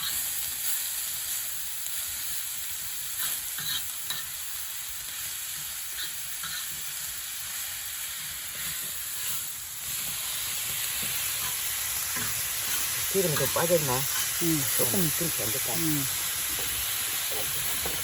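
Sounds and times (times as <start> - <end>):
meat sizzling on a griddle: 0.0 - 18.0.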